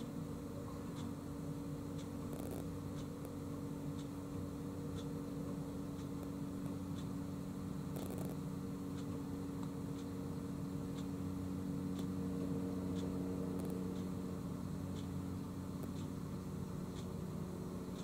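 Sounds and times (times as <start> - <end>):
faint ticking: 0.0 - 18.0.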